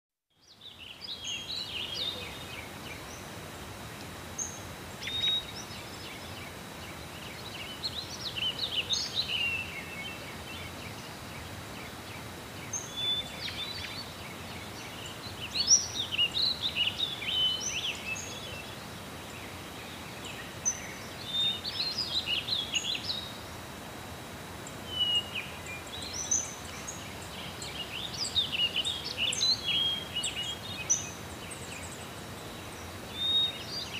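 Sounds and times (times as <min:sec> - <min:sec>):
steady background hiss: 0:00.3 - 0:33.9
songbirds chirping and trilling: 0:00.4 - 0:33.9.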